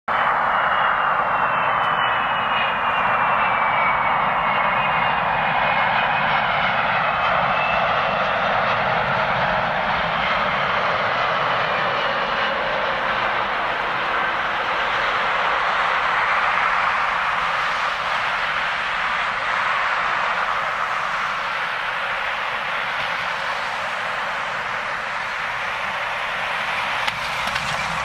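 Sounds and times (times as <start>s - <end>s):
jet engines running loud: 0.1s - 28.0s.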